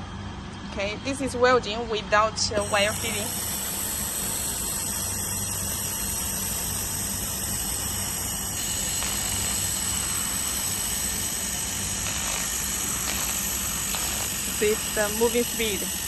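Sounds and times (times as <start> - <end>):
laser welding machine humming and hissing: 0.0 - 16.0.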